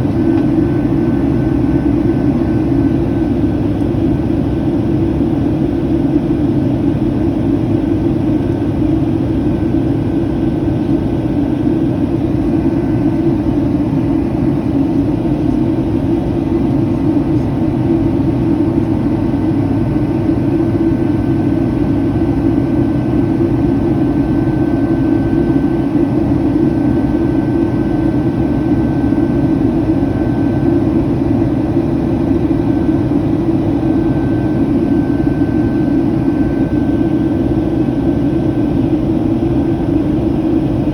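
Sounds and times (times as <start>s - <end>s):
jet engine cabin rush: 0.0s - 40.9s.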